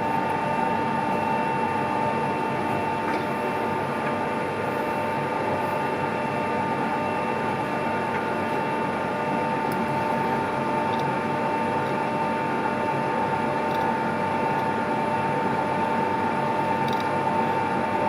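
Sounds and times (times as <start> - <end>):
lathe whining and humming: 0.0 - 18.0.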